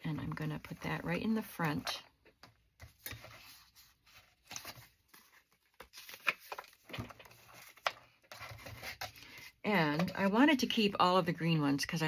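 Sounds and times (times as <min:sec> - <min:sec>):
index cards rustling and scraping: 0:00.3 - 0:10.2.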